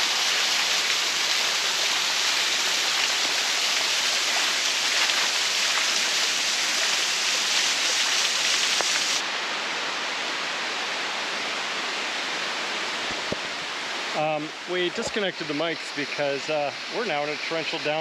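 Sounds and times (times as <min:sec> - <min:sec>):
rush of falling water: 0:00.0 - 0:18.0.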